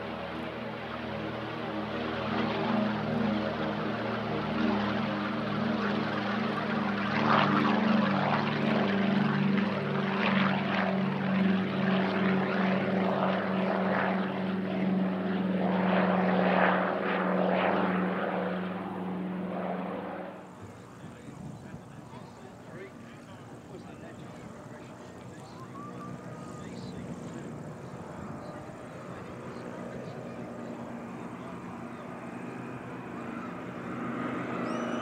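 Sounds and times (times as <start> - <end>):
radial aircraft engines droning: 0.0 - 35.0.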